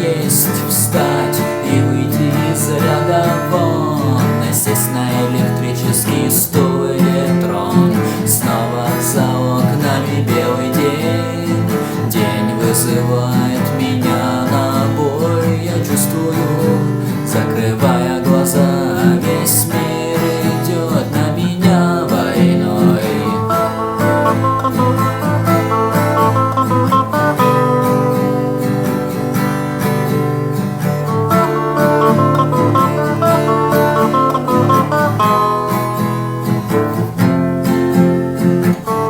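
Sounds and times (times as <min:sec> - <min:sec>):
guitar-led rock music: 0:00.0 - 0:39.0.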